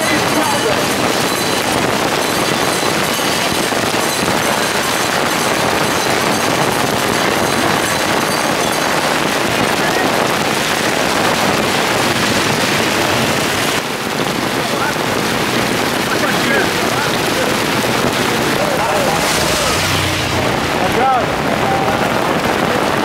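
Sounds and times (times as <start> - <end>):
heavy rain on wet road: 0.0 - 23.0.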